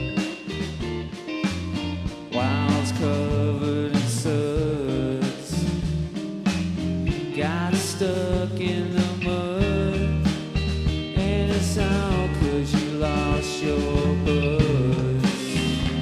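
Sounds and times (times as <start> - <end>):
bass line: 0.0 - 16.0
drums hitting steadily: 0.0 - 16.0
sliding melodic guitar notes: 0.0 - 16.0.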